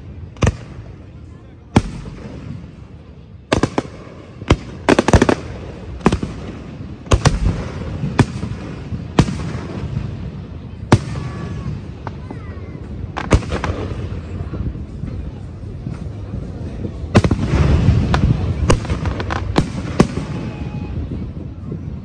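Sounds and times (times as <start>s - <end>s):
fireworks bangs: 0.0s - 21.7s
fireworks crackling: 0.0s - 22.0s.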